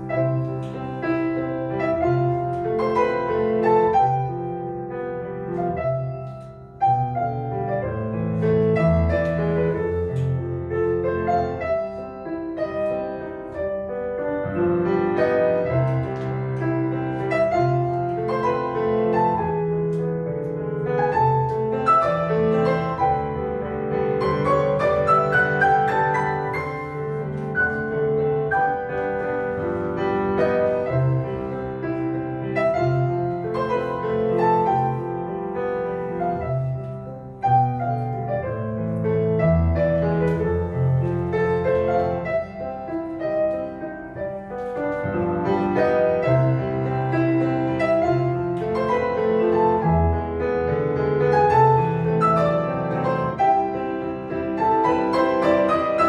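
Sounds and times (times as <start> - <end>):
solo piano playing: 0.0 - 56.0.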